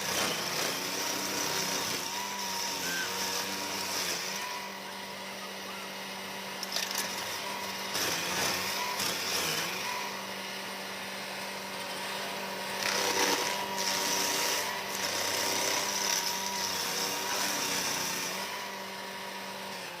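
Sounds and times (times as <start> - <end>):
stump grinder grinding wood: 0.0 - 20.0.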